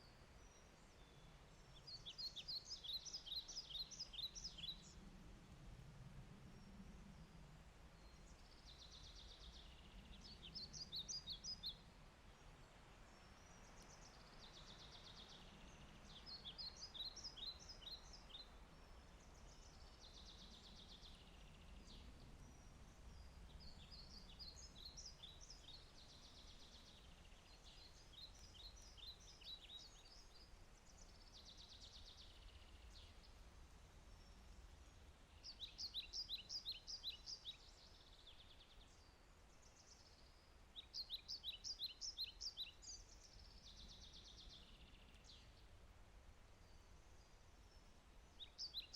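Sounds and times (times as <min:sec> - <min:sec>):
faint steady hiss: 0:00.0 - 0:48.9
songbird singing: 0:00.0 - 0:48.9.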